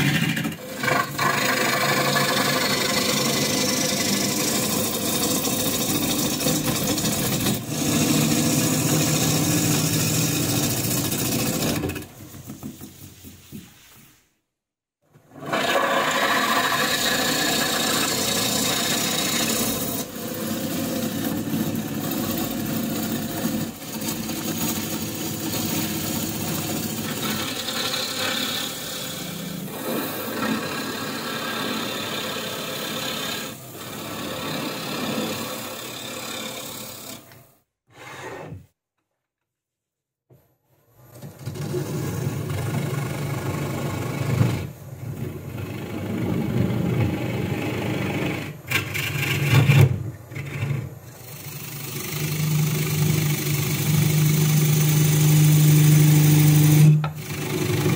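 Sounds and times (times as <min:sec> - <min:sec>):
lathe gouge scraping wood: 0:00.0 - 0:12.1, 0:15.4 - 0:37.3, 0:45.6 - 0:57.9.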